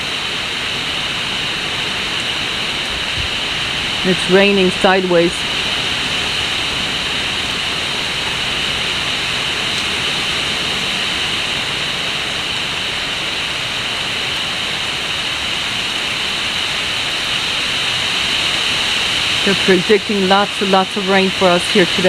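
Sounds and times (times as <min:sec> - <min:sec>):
heavy rain: 0:00.0 - 0:22.0
strong wind: 0:00.0 - 0:22.0.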